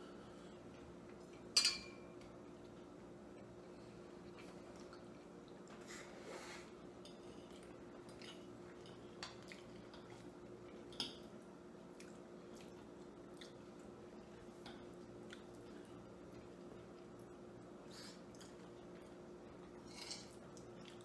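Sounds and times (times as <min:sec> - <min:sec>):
steady low hum: 0:00.0 - 0:21.0
people chewing food: 0:02.2 - 0:21.0.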